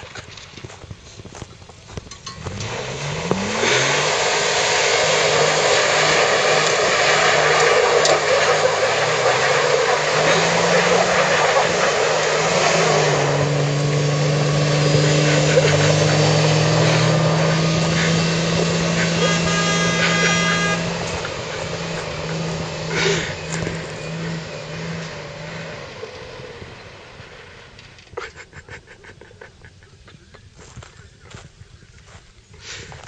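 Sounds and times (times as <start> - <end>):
truck engines revving: 0.0 - 33.0
tyres spinning in loose dirt: 0.0 - 33.0.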